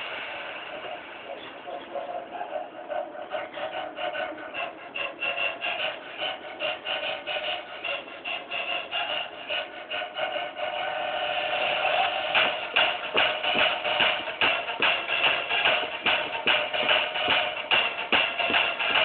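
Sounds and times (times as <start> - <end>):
fast jumpstyle dance music: 0.0 - 19.0.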